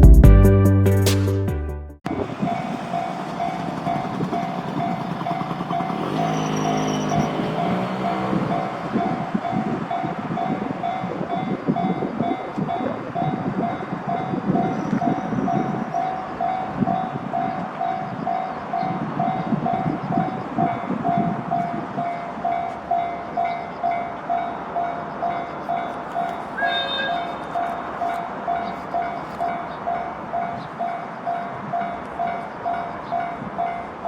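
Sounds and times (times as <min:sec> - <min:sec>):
train rumbling past: 0:02.1 - 0:34.0.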